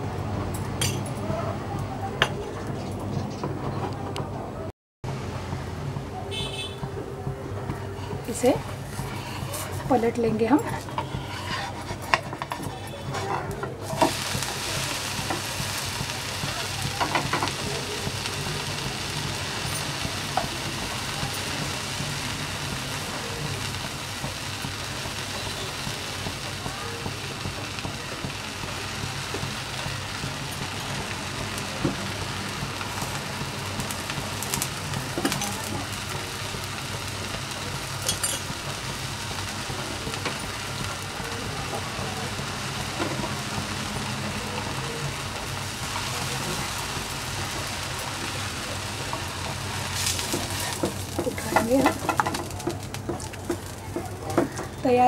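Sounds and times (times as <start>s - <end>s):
pancake sizzling in oil: 8.0s - 55.0s.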